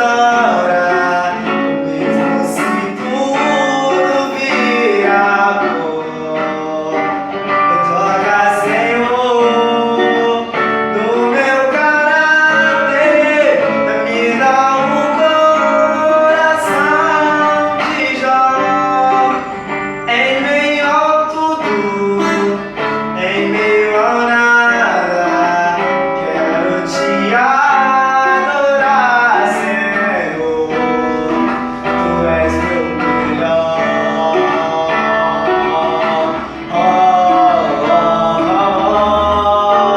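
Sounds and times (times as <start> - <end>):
acoustic guitar: 0.0 - 39.9
man singing gospel song: 0.0 - 39.9.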